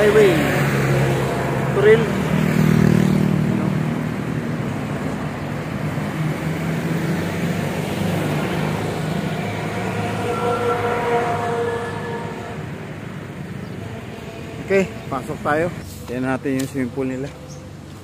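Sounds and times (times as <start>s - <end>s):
large vehicle engine passing: 0.0s - 16.5s.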